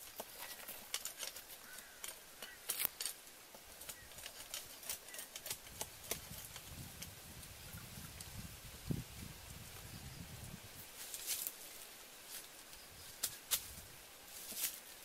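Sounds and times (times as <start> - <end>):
dry leaves and twigs crackling: 0.0 - 15.0.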